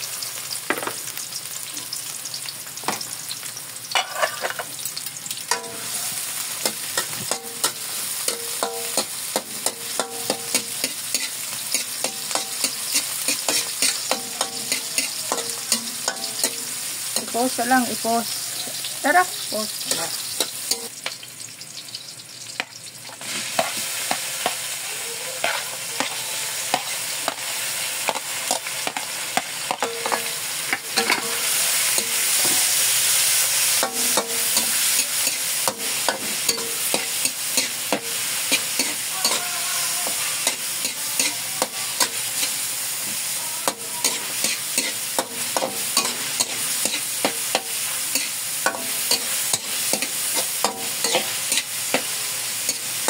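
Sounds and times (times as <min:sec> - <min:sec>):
meat and onions sizzling in oil: 0:00.0 - 0:53.0
spatula scraping wok: 0:03.9 - 0:04.8, 0:05.5 - 0:21.0, 0:23.1 - 0:53.0.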